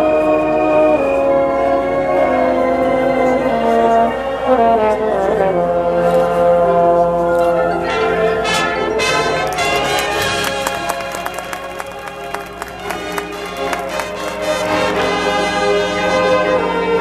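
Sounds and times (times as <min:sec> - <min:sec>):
brass chords: 0:02.0 - 0:17.0.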